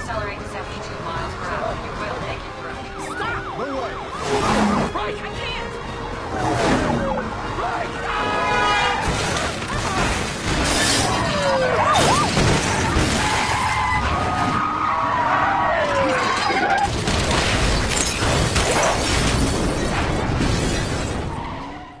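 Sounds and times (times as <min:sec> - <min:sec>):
car engines: 0:00.0 - 0:22.0.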